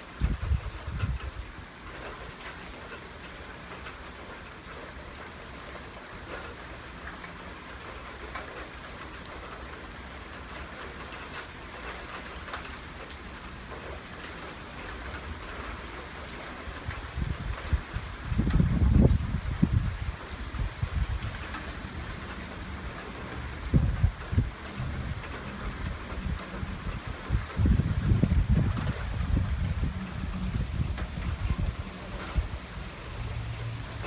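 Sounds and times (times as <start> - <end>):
heavy rain on hard surfaces: 0.0 - 34.0.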